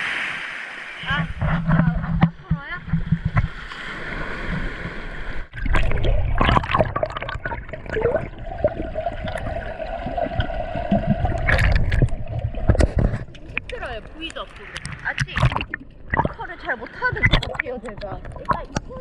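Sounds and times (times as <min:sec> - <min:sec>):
seawater sloshing and splashing: 0:00.0 - 0:19.0.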